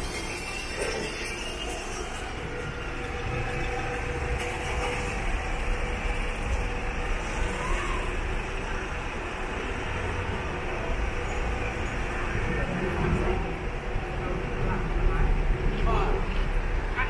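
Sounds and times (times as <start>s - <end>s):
cars moving slowly along road: 0.0s - 17.0s.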